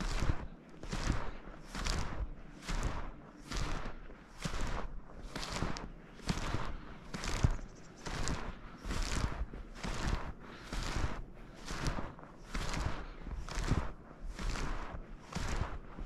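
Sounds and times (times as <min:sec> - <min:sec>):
snowshoes crunching snow: 0:00.0 - 0:16.0.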